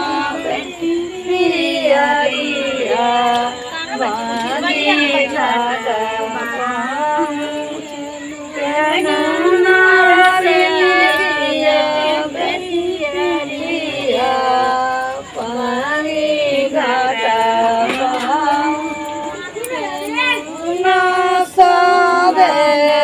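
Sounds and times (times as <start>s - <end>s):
women singing unaccompanied: 0.0s - 23.0s.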